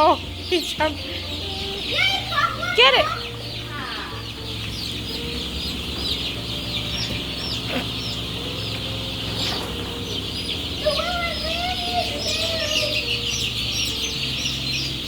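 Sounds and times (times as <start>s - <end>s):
chicks cheeping: 0.0s - 15.0s.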